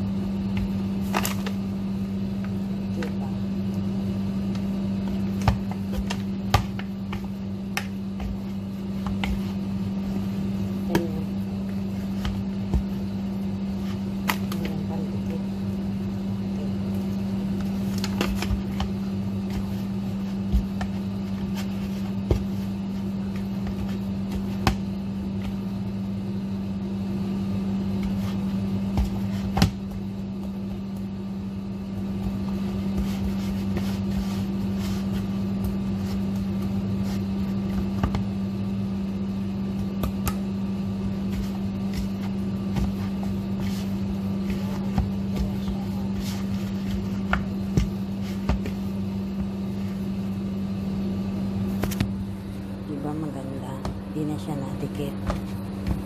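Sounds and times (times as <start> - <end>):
electric motor hum: 0.0 - 56.0.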